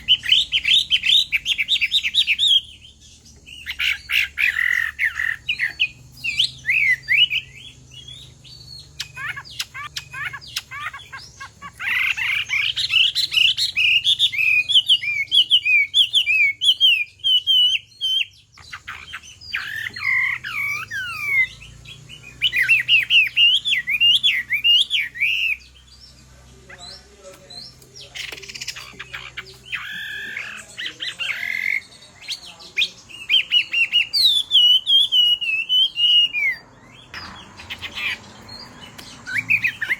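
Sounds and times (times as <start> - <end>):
bird singing whistled phrases: 0.0 - 25.6, 28.2 - 39.9.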